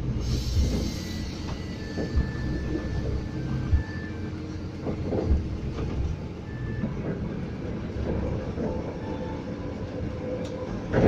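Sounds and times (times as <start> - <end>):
bus engine running: 0.0 - 9.1
low road rumble: 0.0 - 11.0.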